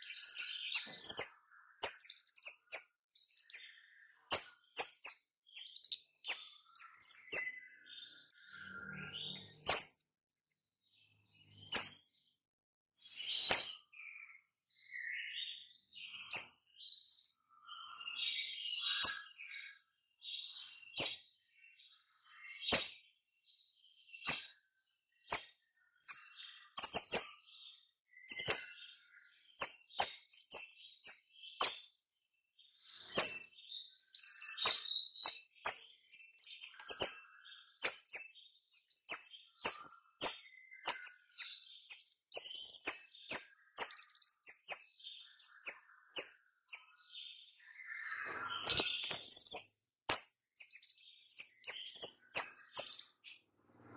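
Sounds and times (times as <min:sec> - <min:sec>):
songbird chirping: 0:00.0 - 0:10.1, 0:10.8 - 0:12.4, 0:13.0 - 0:32.0, 0:32.6 - 0:53.9.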